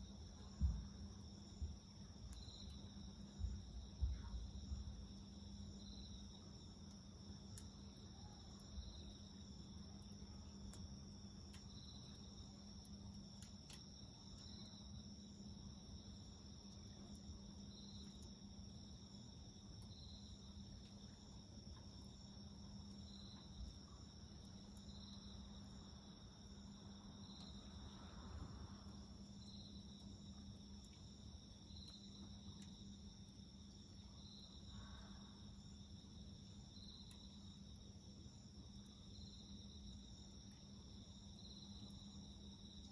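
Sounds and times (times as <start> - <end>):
crickets and insects trilling: 0.0 - 42.9
faint wood fire crackles: 0.0 - 42.9.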